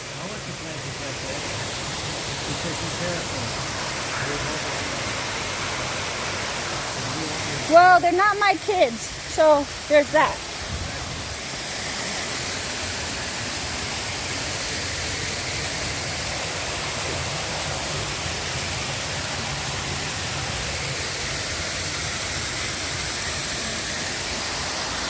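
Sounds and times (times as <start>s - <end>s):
waterfall and brook rushing: 0.0s - 25.0s.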